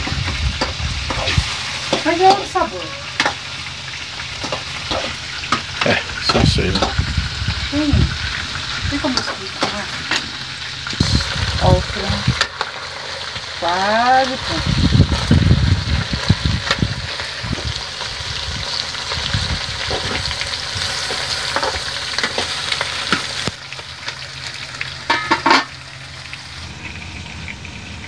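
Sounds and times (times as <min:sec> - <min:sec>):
chicken frying in oil: 0:00.0 - 0:28.0
okra sizzling in frying pan: 0:00.0 - 0:28.0.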